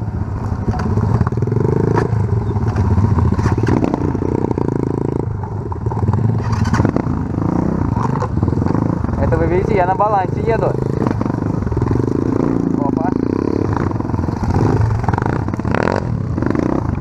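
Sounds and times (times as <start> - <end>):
bike rattling over bumps: 0.2 - 17.0.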